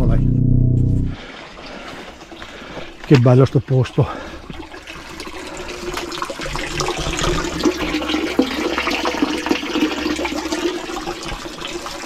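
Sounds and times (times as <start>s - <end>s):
water running and splashing: 1.3s - 12.0s.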